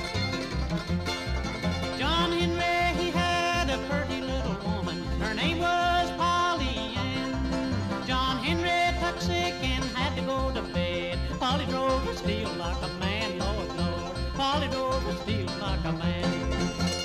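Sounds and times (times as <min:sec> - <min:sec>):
bluegrass music with banjo: 0:00.0 - 0:17.0.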